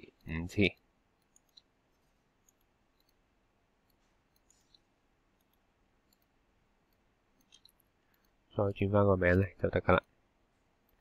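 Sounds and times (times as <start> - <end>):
computer mouse clicks: 0.0 - 9.4, 10.8 - 11.0.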